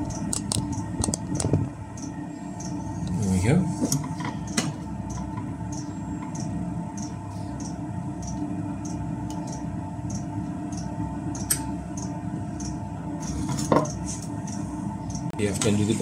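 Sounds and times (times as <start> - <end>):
heater fan hum: 0.0 - 16.0.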